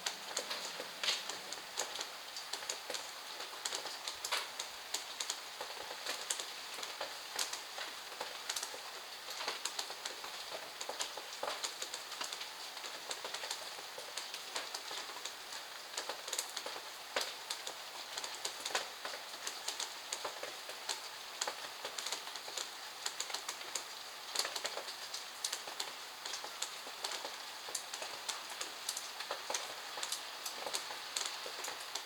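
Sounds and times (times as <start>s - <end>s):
rain falling: 0.0s - 32.0s.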